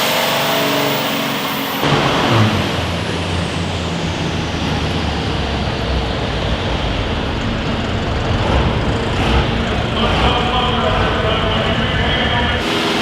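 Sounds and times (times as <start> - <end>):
loud vehicle engine running: 0.0 - 13.0.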